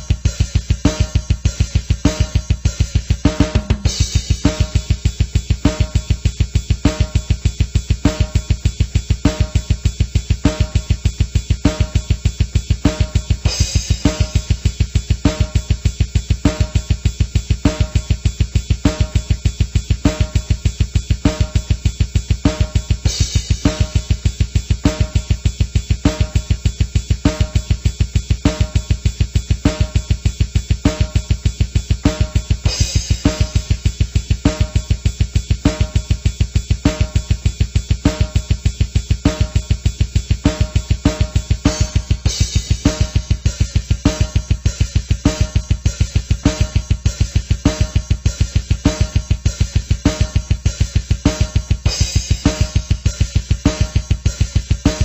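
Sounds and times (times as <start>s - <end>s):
drum-kit beat: 0.0s - 55.0s.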